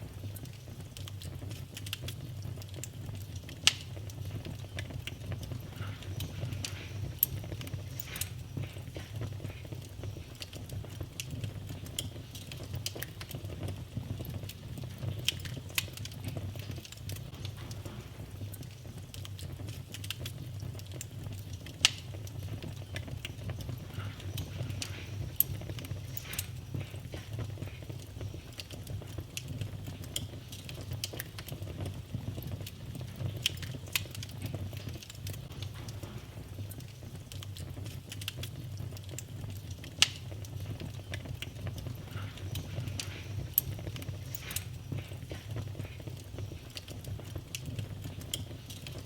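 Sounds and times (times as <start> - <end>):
fire crackling and popping: 0.0 - 49.0
fire rumbling: 0.0 - 49.0.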